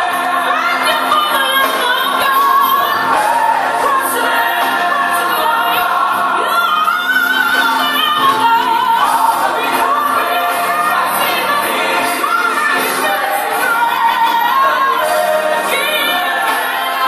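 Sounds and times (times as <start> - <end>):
song with sung melody: 0.0 - 17.0.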